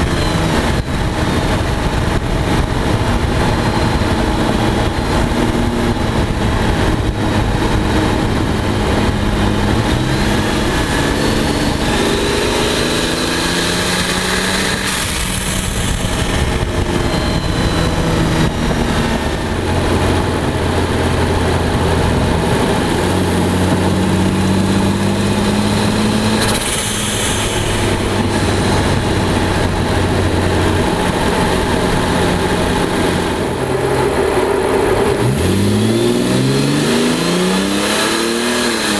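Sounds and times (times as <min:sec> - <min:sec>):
car engine cruising: 0:00.0 - 0:38.9.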